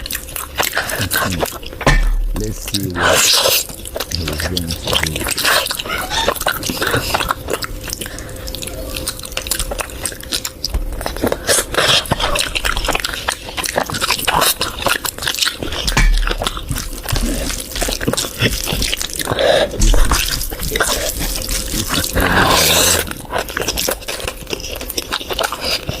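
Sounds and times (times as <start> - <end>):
wet chewing and lip-smacking: 0.0 - 26.0.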